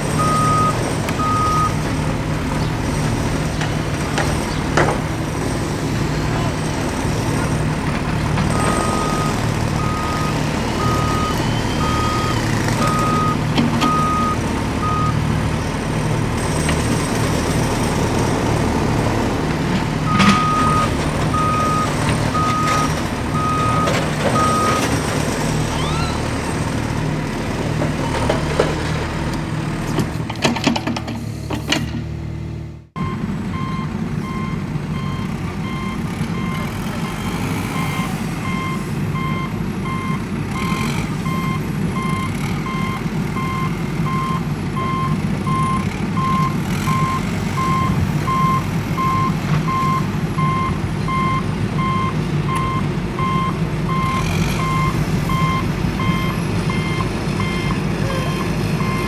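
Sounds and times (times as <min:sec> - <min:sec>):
truck reversing alarm beeping: 0:00.0 - 0:30.1, 0:33.0 - 0:59.0
engine rumble: 0:00.0 - 0:59.0.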